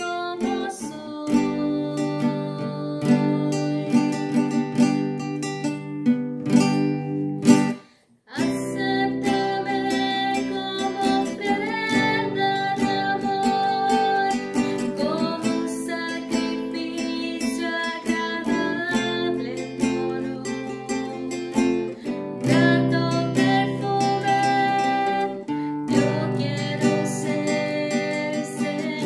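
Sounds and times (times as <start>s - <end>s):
classical guitar chords: 0.0s - 29.0s.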